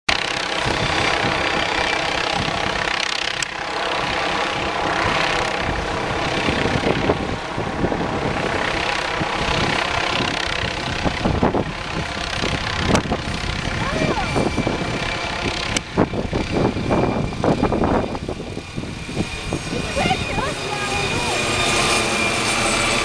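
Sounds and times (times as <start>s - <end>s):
helicopter rotor and turbine: 0.1s - 23.0s.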